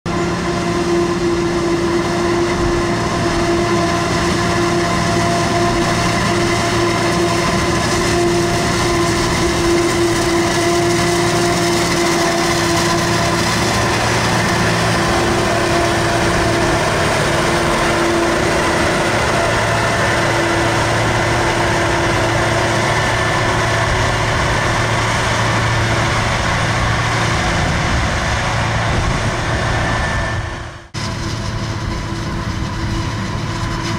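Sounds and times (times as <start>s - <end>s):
forage harvester drone and whine: 0.1s - 33.9s.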